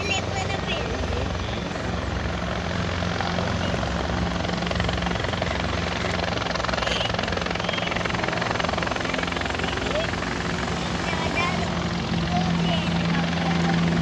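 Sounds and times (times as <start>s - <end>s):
helicopter rotors beating: 0.0s - 14.0s.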